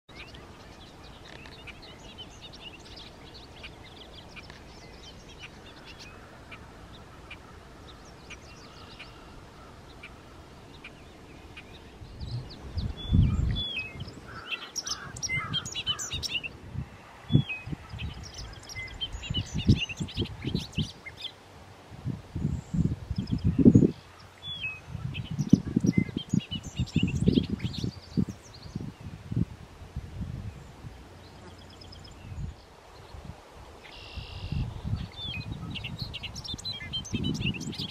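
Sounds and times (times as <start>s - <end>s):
bird song: 0.1s - 16.6s, 17.2s - 21.4s, 22.4s - 29.4s, 30.4s - 37.9s.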